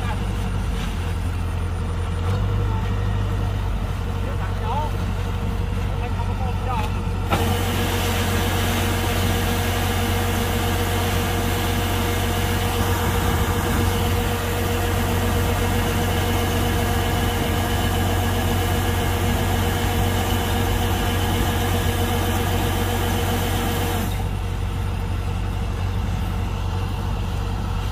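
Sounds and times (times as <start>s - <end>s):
diesel engine humming: 0.0s - 27.9s.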